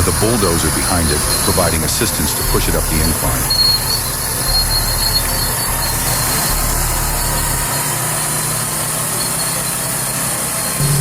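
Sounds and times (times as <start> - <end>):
heavy diesel engines: 0.0 - 11.0.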